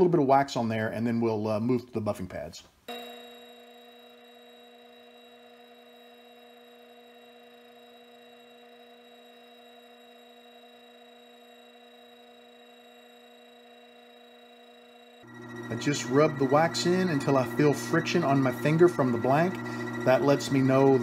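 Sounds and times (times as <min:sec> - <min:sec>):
lathe electric hum: 0:02.9 - 0:21.0.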